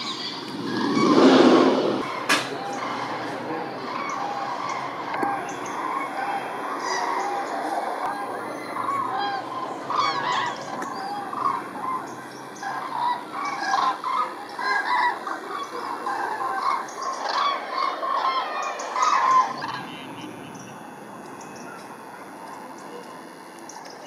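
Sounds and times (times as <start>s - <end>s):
cranes trumpeting in flight: 0.0s - 24.0s.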